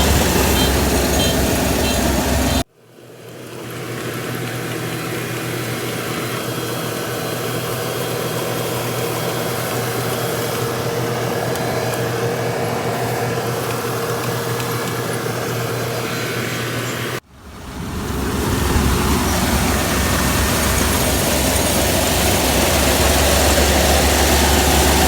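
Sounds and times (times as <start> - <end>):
combine harvester drone: 0.0 - 2.7, 4.1 - 25.0.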